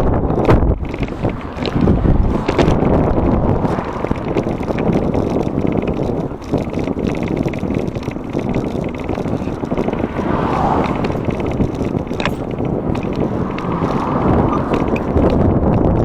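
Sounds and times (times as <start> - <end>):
bicycle rattles: 0.0 - 16.0
road traffic passing: 0.0 - 16.0
wind rushing over microphone: 0.0 - 16.0.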